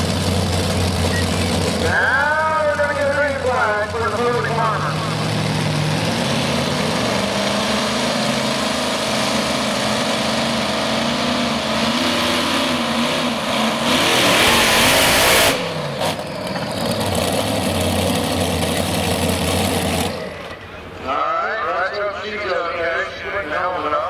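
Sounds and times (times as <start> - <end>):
pulling tractor engine under throttle: 0.0 - 21.0.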